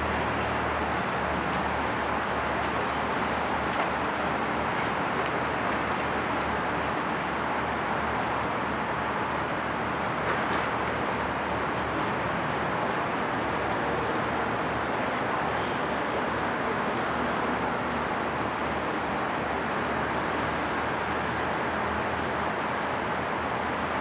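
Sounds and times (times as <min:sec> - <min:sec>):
waterfront ambient rush: 0:00.0 - 0:24.0.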